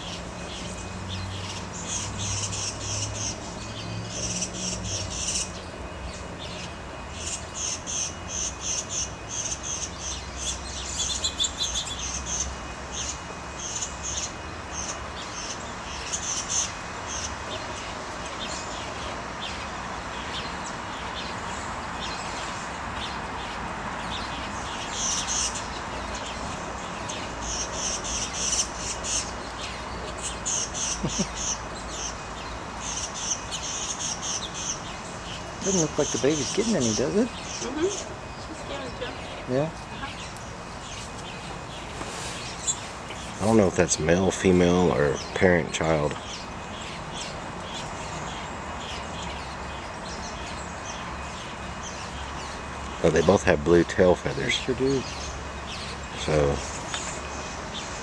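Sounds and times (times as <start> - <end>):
small songbirds chirping: 0.0 - 58.0
steady background hiss: 0.0 - 58.0.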